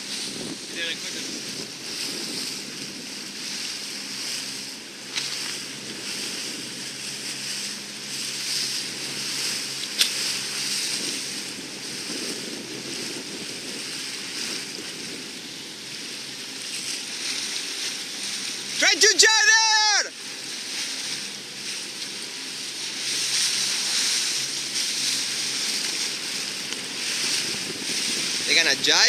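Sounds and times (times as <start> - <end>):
wind buffeting microphone: 0.0 - 18.9, 20.2 - 29.0
waves washing: 0.0 - 29.0.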